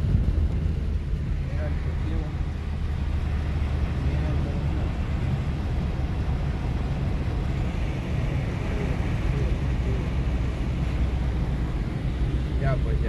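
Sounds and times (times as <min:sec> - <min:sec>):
car road and engine rumble: 0:00.0 - 0:13.0
tyres hissing on wet road: 0:00.0 - 0:13.0.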